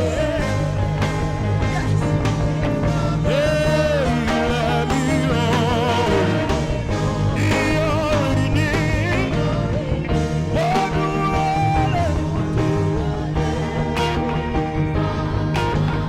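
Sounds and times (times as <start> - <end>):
backing band with bass and drums: 0.0 - 16.0.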